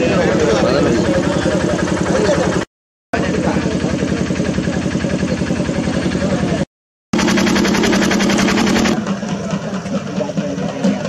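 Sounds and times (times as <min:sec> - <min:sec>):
crowd noise: 0:00.0 - 0:06.7, 0:07.9 - 0:11.0
drums beaten fast: 0:00.0 - 0:11.0.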